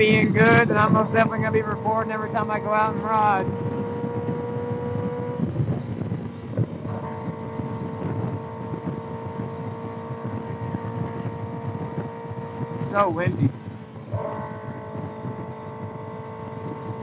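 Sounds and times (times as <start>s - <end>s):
motorcycle engine cruising: 0.0s - 17.0s
wind buffeting microphone: 0.0s - 17.0s.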